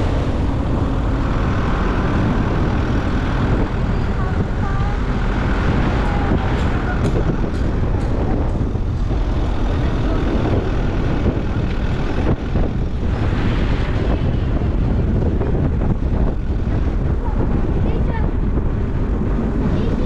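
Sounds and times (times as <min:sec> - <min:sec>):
car engine: 0:00.0 - 0:20.0
tyre and wind noise: 0:00.0 - 0:20.0.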